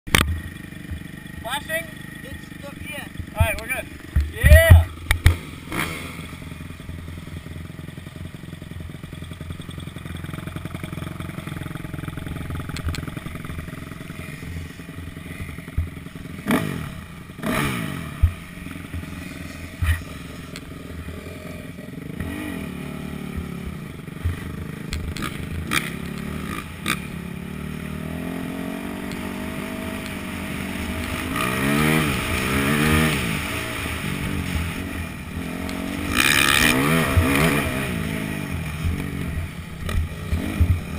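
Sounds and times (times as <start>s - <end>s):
dirt bike engine revving: 0.1s - 40.9s.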